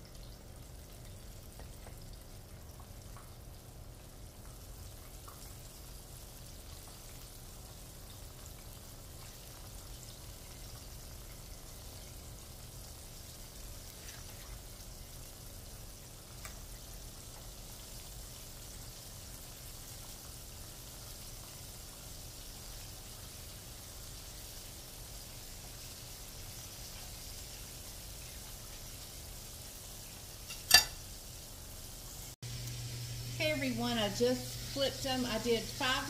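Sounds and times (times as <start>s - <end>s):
chicken sizzling in oil: 0.0s - 36.0s.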